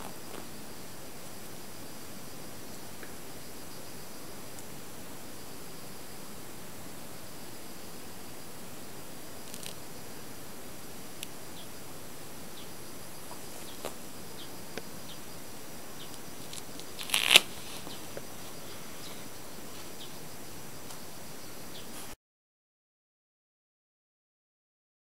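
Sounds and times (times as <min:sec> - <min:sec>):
steady hiss: 0:00.0 - 0:22.2.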